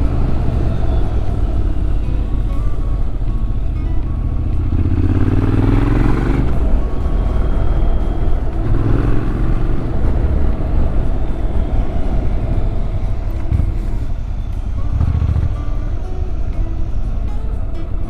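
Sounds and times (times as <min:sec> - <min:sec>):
motorcycle engine accelerating: 0:00.0 - 0:18.0
wind and road noise: 0:00.0 - 0:18.0.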